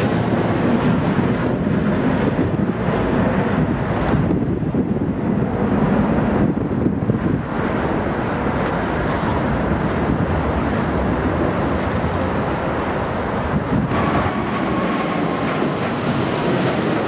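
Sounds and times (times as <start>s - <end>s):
jet engine noise: 0.0s - 17.0s
wind buffeting microphone: 0.0s - 17.0s.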